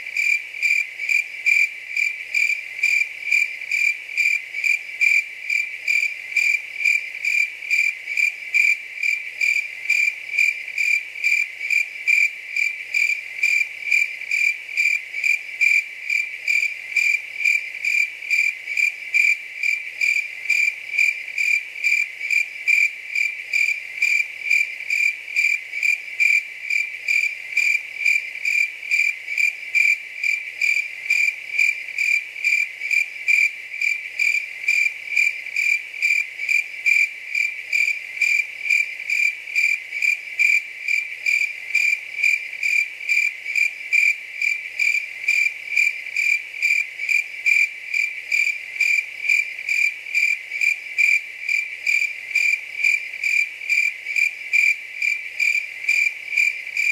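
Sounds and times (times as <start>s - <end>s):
cricket chirping: 0.0s - 56.9s.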